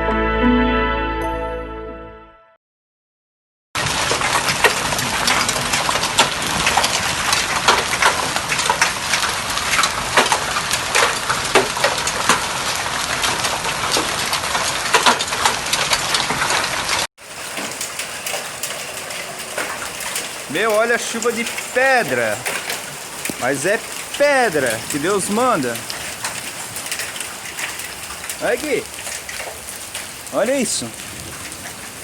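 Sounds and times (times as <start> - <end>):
hail and rain falling: 3.8 - 32.0.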